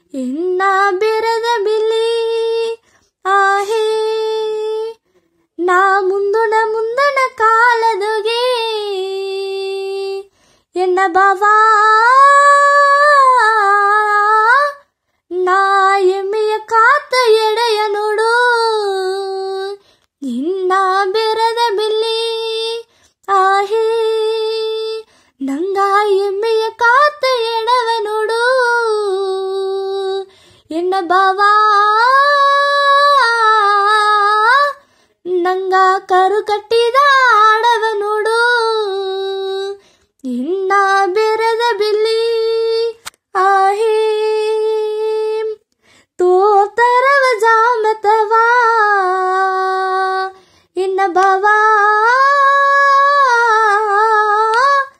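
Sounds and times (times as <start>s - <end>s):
girl singing unaccompanied: 0.0s - 54.9s.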